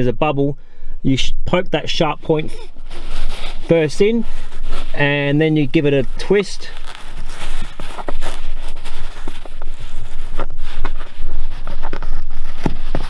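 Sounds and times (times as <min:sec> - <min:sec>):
fingers rubbing on cloth fabric: 0:02.4 - 0:13.0.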